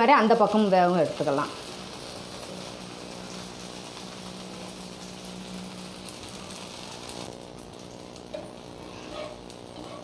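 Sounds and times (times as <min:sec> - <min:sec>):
batter sizzling in oil: 0:00.0 - 0:10.0.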